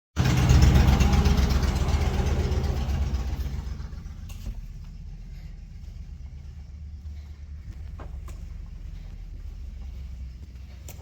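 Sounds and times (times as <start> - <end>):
cleaning machine motor rumbling: 0.2 - 11.0.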